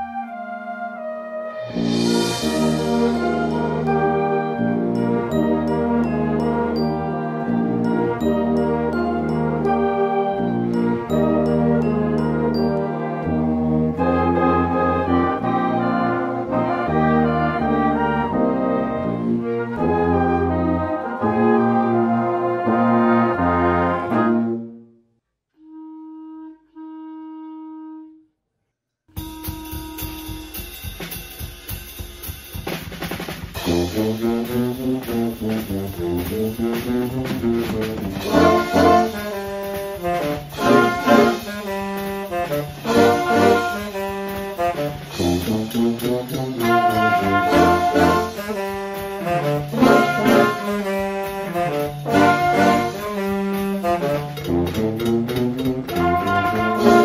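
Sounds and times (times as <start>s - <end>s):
drum kit: 1.6s - 20.5s, 29.1s - 57.0s
concert band playing: 1.6s - 24.4s, 29.2s - 57.0s.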